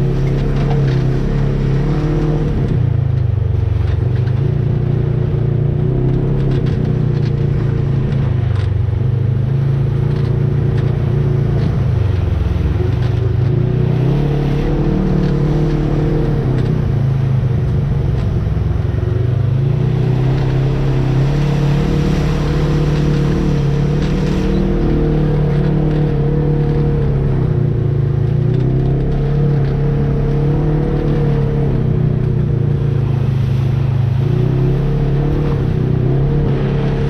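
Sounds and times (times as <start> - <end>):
vehicle engine running under load: 0.0 - 37.0.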